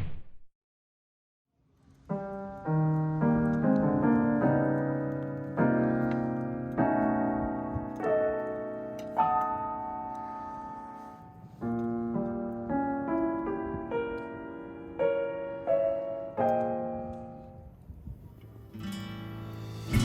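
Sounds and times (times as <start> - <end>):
slow piano music: 2.0 - 20.0.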